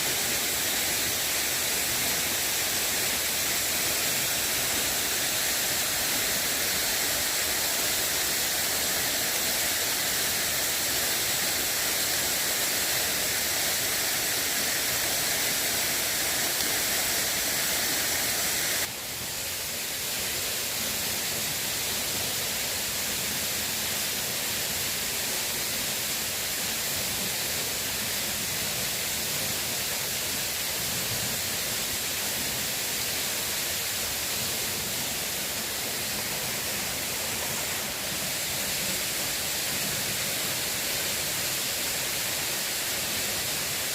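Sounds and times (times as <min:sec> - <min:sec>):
water rushing: 0:00.0 - 0:43.9.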